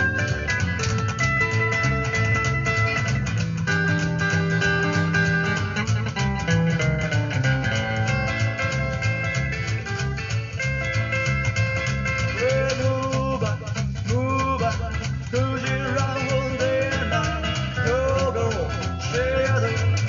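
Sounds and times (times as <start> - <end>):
bass guitar: 0.0 - 20.0
drum kit beat: 0.0 - 20.0
guitar notes: 0.0 - 20.0.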